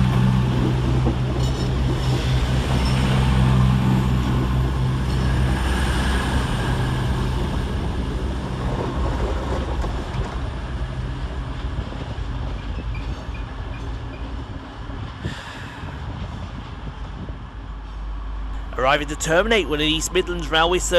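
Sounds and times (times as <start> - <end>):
diesel train engine droning: 0.0 - 20.9.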